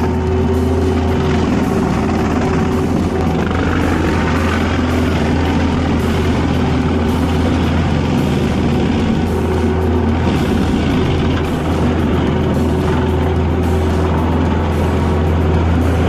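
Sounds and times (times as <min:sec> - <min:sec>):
heavy machine running under load: 0:00.0 - 0:16.0.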